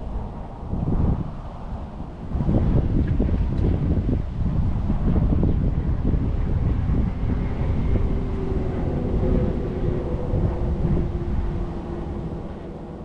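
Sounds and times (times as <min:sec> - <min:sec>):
faint steady drone: 0:00.0 - 0:13.0
wind buffeting microphone: 0:00.0 - 0:13.0.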